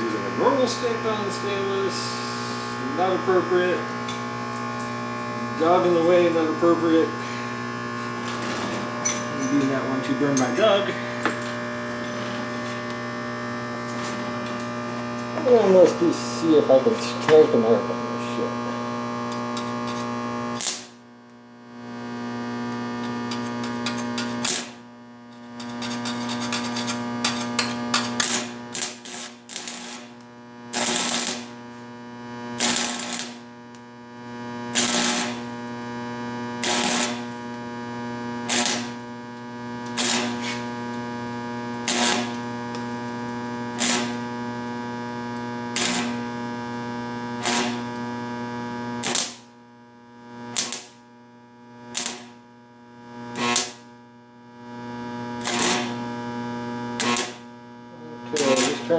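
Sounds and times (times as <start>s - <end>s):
stick welder humming: 0.0s - 58.9s
welding arc crackling: 0.0s - 58.9s.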